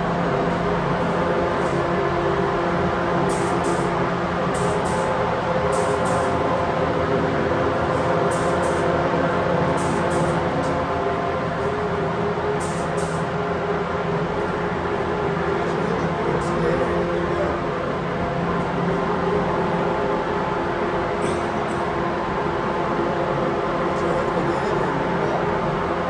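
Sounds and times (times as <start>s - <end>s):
ventilation drone: 0.0s - 26.0s.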